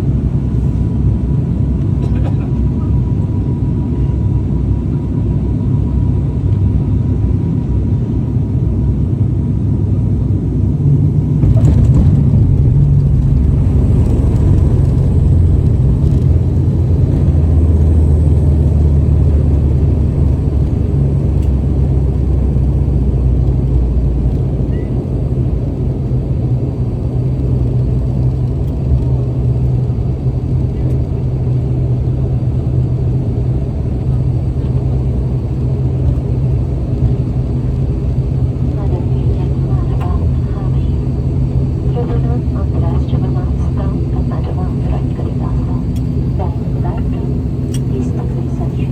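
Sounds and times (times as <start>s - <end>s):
low rumble with deep hum: 0.0s - 48.9s.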